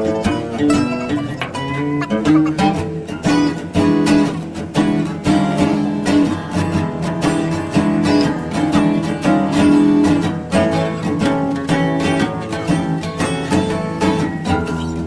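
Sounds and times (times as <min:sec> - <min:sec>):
acoustic guitar strummed and plucked: 0:00.0 - 0:15.0.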